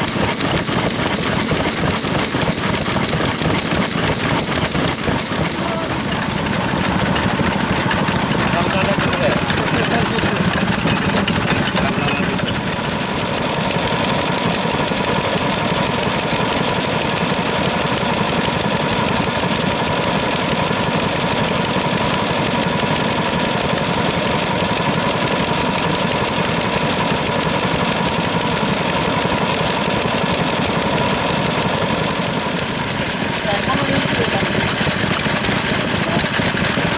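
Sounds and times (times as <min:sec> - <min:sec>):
stationary engine running: 0:00.0 - 0:36.9.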